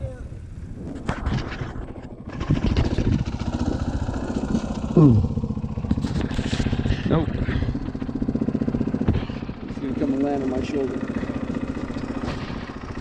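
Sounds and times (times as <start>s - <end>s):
dirt bike engine running: 0.5s - 13.0s.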